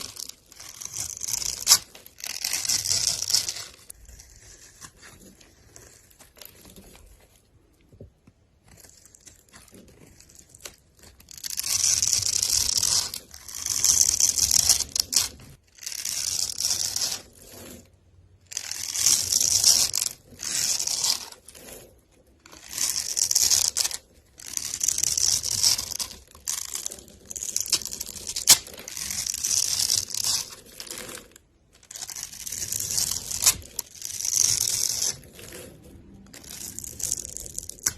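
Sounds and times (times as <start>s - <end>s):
knife cutting through soap: 0.0s - 17.9s, 18.5s - 37.9s.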